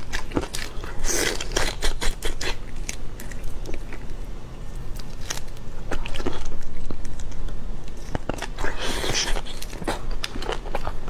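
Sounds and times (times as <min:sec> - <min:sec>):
crunching bites and chewing: 0:00.0 - 0:11.0.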